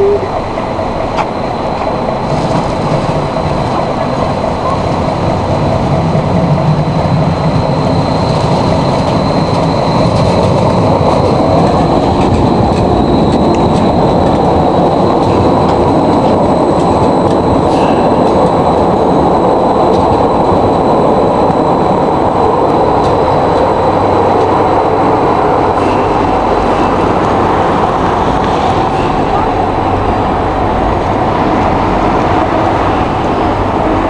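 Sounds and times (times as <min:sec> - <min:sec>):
trains rumbling on rails: 0:00.0 - 0:34.0.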